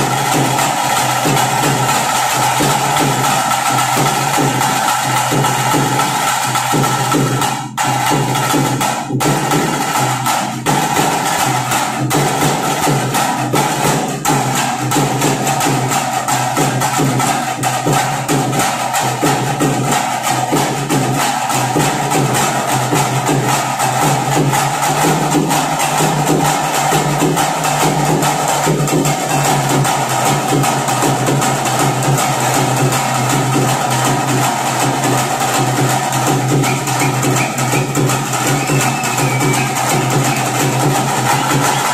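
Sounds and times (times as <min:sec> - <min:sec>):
fast percussion band drumming: 0:00.0 - 0:41.9.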